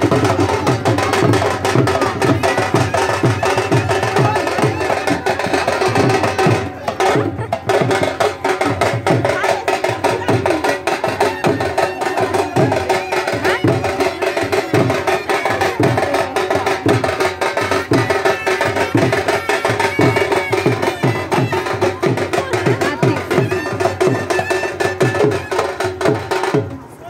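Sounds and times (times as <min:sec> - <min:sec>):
held melody line: 0:00.0 - 0:26.6
low drum beat: 0:00.0 - 0:27.0.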